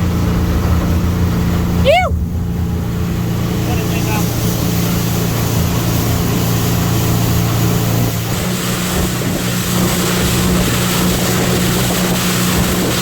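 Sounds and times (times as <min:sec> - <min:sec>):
motorboat engine running: 0:00.0 - 0:13.0
water rushing: 0:00.0 - 0:13.0
wind buffeting microphone: 0:00.0 - 0:13.0.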